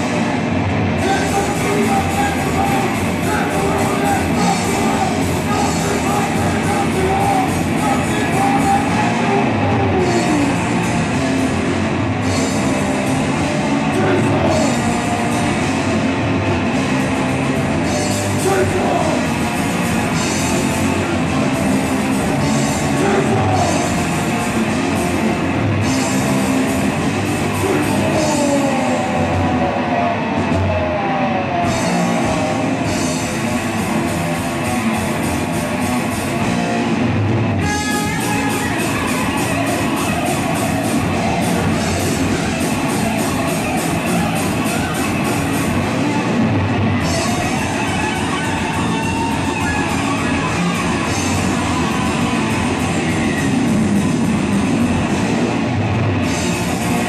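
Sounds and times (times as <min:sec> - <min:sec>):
distorted electric guitars: 0:00.0 - 0:57.0
drum kit: 0:00.0 - 0:57.0
person singing and shouting: 0:00.9 - 0:11.5, 0:12.2 - 0:33.9, 0:37.6 - 0:55.5.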